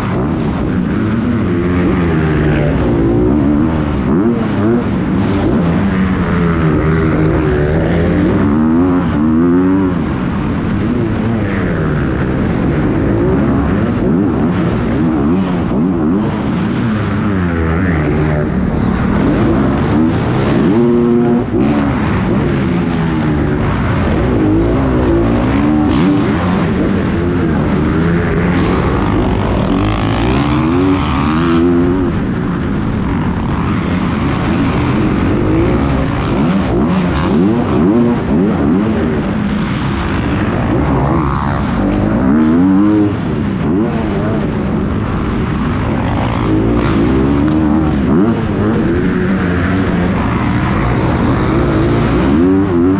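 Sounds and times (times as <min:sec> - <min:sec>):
dirt bike engine revving: 0:00.0 - 0:52.9
other motorbike engines: 0:00.0 - 0:52.9.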